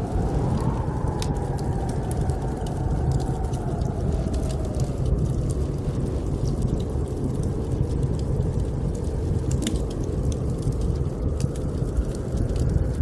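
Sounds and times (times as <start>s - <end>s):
blizzard wind howling: 0.0s - 13.0s
wood fire crackling: 0.0s - 13.0s.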